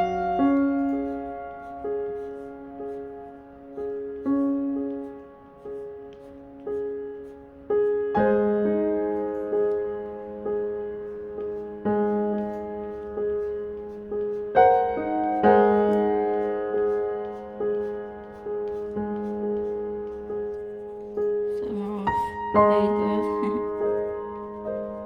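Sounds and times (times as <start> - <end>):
slow solo piano music: 0.0 - 25.0.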